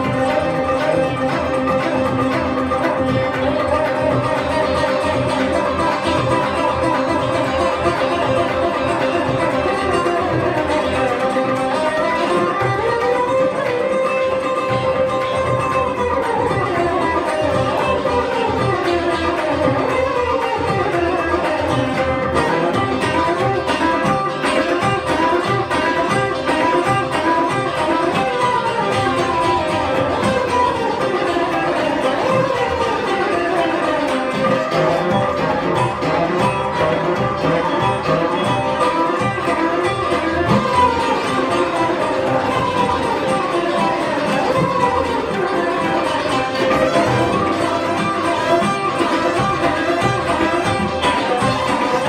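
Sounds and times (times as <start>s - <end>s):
amplified veena playing: 0.0s - 52.0s
percussion accompaniment: 0.0s - 52.0s.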